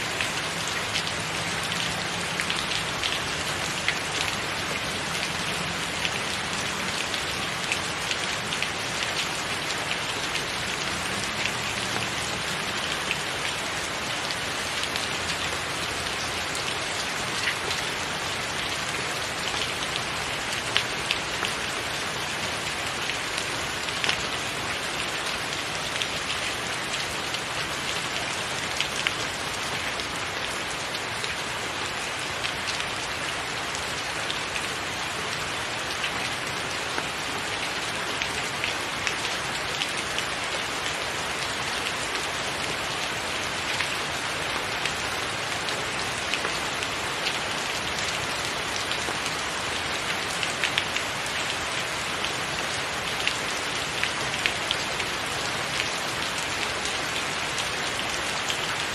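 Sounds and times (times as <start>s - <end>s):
rain on a tiled roof: 0.0s - 58.9s.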